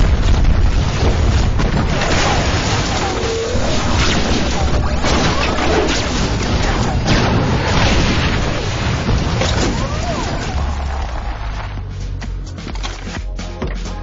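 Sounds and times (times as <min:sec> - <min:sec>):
dense rumbling with booms and crashes: 0:00.0 - 0:12.2.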